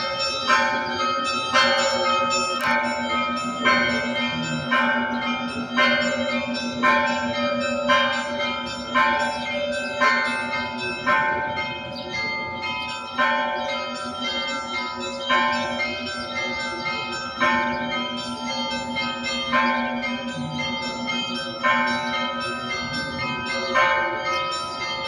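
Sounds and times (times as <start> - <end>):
loud church bell strikes: 0.0 - 25.0
small bells ringing: 0.0 - 25.0.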